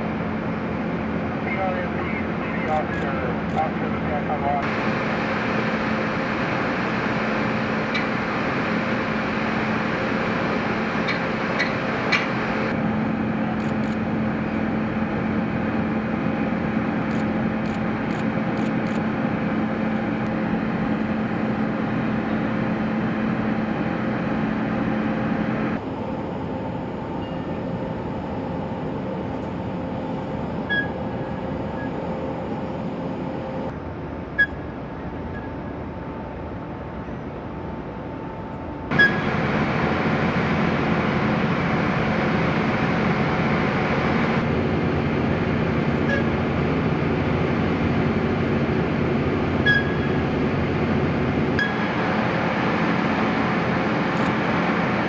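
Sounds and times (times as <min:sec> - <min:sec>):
steady mechanical drone: 0:00.0 - 0:55.0.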